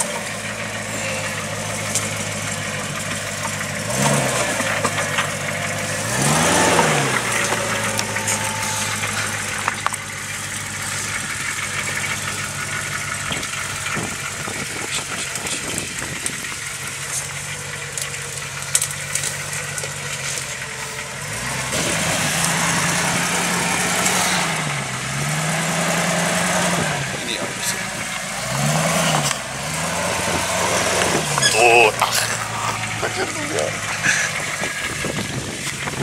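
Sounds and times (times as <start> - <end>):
truck engine running at low revs: 0.0 - 36.0.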